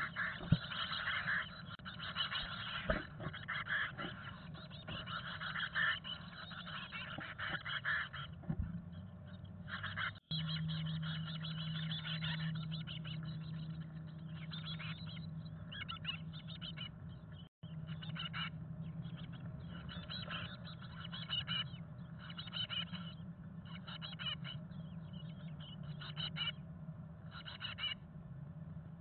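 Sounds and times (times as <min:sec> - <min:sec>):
chickadees calling: 0:00.0 - 0:26.6, 0:27.2 - 0:28.1
steady low hum: 0:00.0 - 0:29.0.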